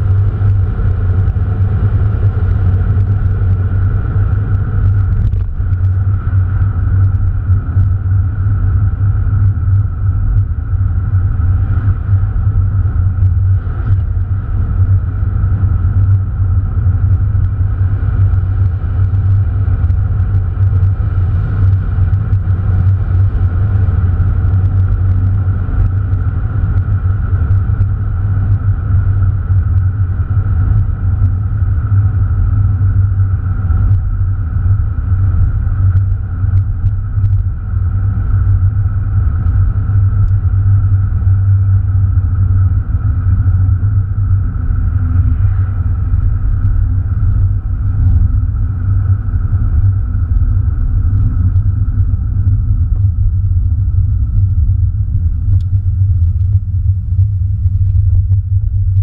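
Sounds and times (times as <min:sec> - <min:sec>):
car engine drone inside cabin: 0:00.0 - 0:59.0
road noise: 0:00.0 - 0:59.0.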